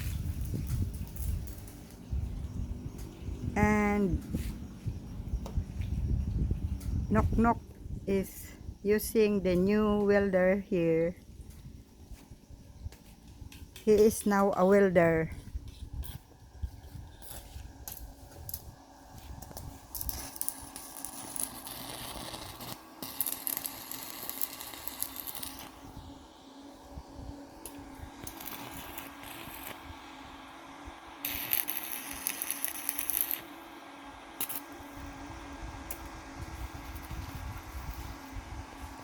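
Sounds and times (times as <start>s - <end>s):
welding arc crackling and hissing: 0.0s - 10.5s, 12.9s - 39.0s
steady low hum: 0.0s - 39.0s.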